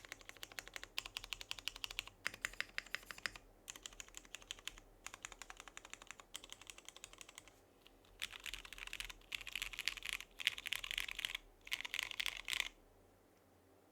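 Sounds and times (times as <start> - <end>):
mechanical keyboard typing: 0.0 - 12.8.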